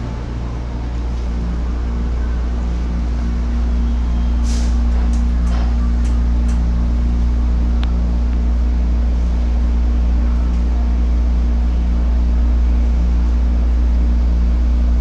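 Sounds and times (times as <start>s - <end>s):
low hum of train equipment: 0.0s - 15.0s.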